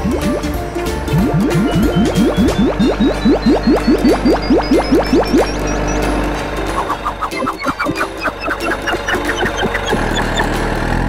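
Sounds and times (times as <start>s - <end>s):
cartoon truck engine idling hum: 0.0s - 11.0s
light background music: 0.0s - 11.0s.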